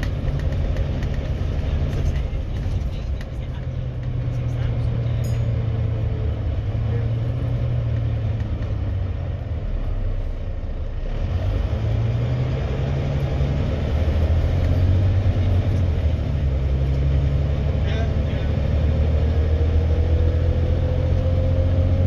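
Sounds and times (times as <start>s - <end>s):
bus diesel engine drone: 0.0s - 22.0s
road noise: 0.0s - 22.0s.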